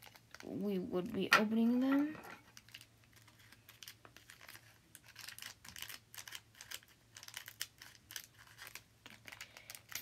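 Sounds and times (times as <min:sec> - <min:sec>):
foil wrapper crinkling: 0:00.0 - 0:00.9, 0:01.8 - 0:10.0.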